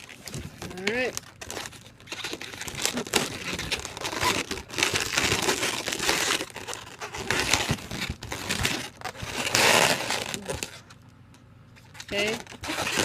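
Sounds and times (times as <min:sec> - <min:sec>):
rubber balloons rubbing and crinkling: 0:00.0 - 0:11.0, 0:11.7 - 0:13.0.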